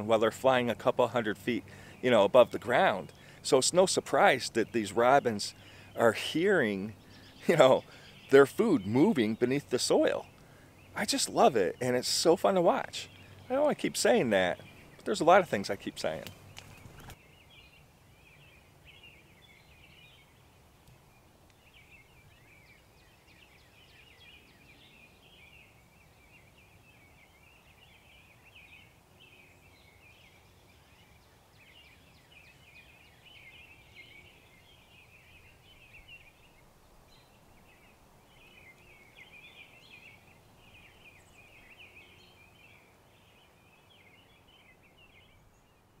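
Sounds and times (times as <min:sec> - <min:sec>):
distant birds chirping: 0:00.0 - 0:46.0.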